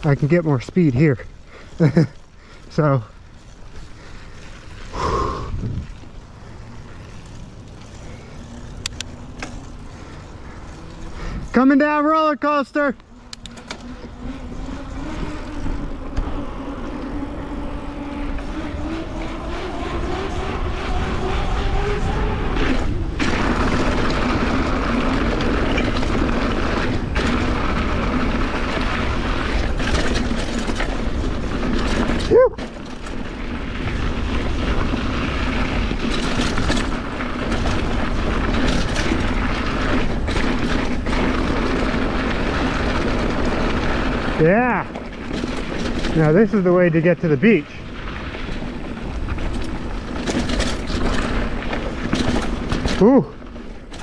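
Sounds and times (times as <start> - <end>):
wind rush and rolling noise: 0.0 - 11.7, 13.0 - 54.0
bike whirring hum: 0.0 - 54.0.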